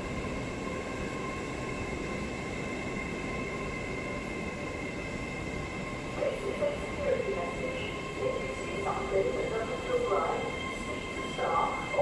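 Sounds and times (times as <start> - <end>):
electric train whine: 0.0 - 12.0
train rumble: 0.0 - 12.0.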